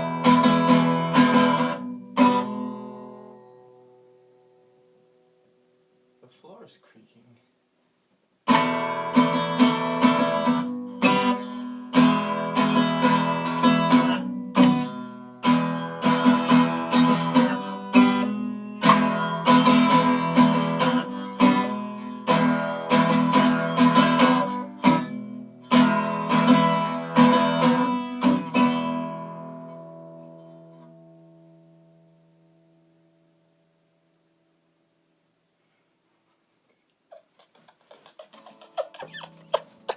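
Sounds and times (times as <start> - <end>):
acoustic guitar strumming chords: 0.0 - 6.3, 8.4 - 34.8.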